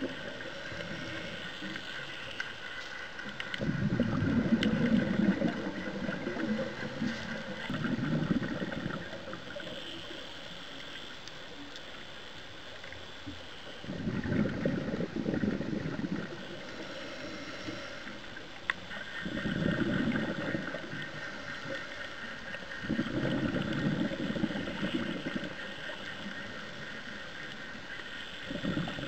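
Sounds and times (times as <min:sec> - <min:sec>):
exhaled breath bubbling from regulator: 0:00.0 - 0:02.4, 0:03.2 - 0:10.6, 0:13.6 - 0:29.0.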